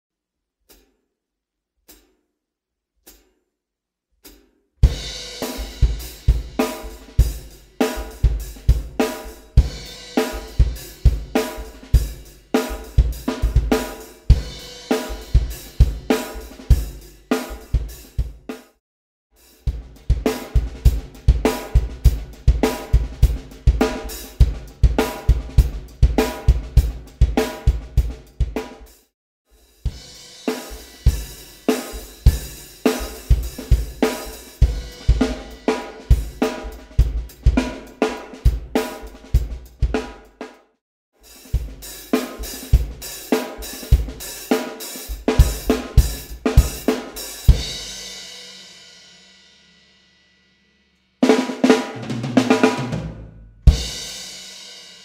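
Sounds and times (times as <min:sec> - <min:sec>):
drum kit playing a beat: 0:04.2 - 0:18.8, 0:19.4 - 0:40.6, 0:41.2 - 0:49.3, 0:51.2 - 0:55.0.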